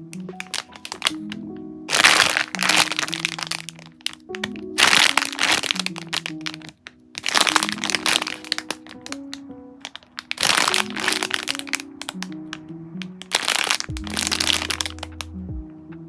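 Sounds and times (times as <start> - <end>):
soft background music: 0.0 - 16.0
plastic packaging crinkling: 0.2 - 9.2, 9.8 - 12.4, 13.0 - 15.2.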